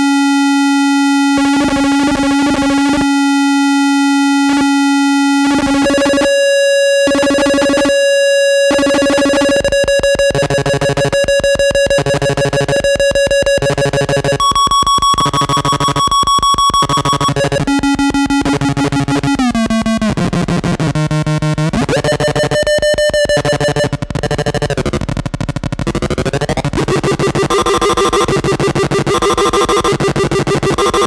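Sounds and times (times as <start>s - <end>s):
pulsing buzzing synth drone: 0.0s - 6.4s, 10.3s - 31.0s.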